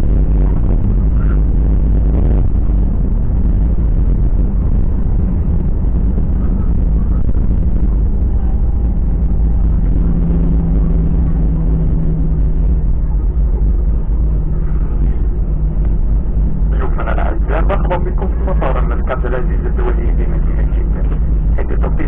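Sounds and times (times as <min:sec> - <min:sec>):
jet engines and airflow rumble: 0:00.0 - 0:22.0
steady cabin hum: 0:00.0 - 0:22.0.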